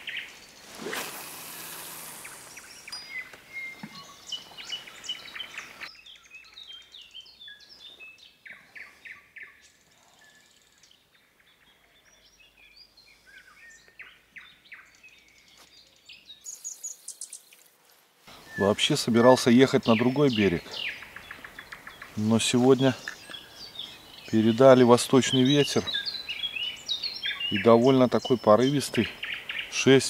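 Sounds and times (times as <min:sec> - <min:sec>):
songbirds chirping and trilling: 0:00.0 - 0:30.0.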